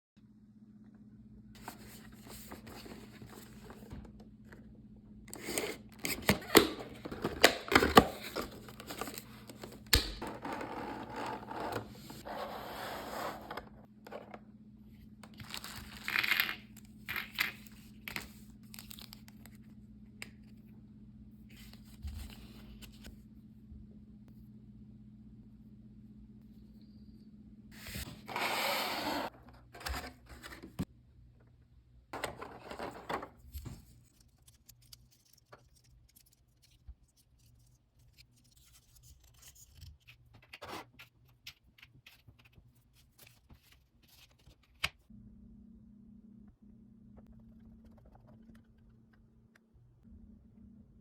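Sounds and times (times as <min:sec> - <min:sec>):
faint steady hum: 0:00.2 - 0:51.0.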